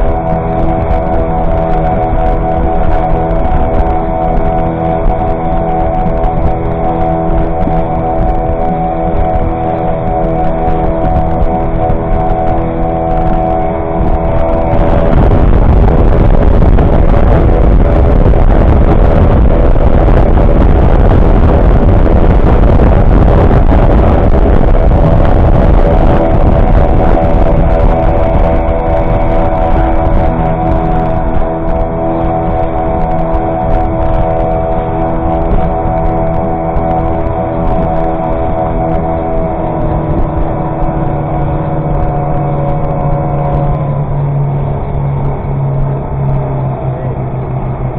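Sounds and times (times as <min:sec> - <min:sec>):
outboard motors running: 0:00.0 - 0:47.9
water rushing past boat: 0:00.0 - 0:47.9.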